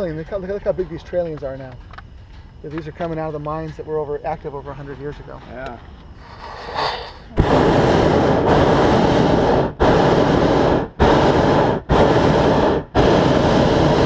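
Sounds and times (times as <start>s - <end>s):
propane burner blasts: 0.0s - 14.0s.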